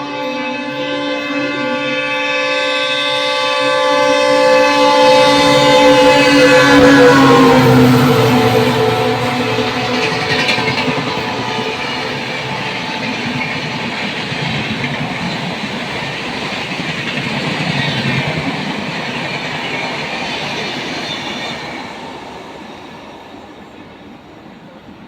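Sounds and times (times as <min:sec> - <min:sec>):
passenger train rushing past: 0:00.0 - 0:25.0.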